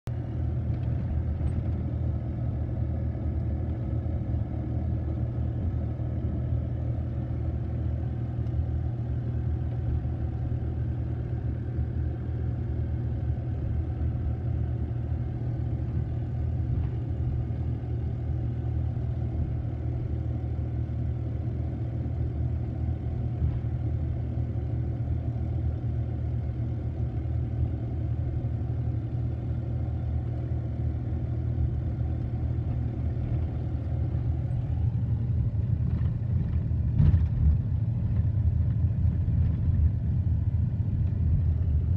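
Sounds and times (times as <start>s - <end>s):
car driving low rumble: 0.0s - 41.9s.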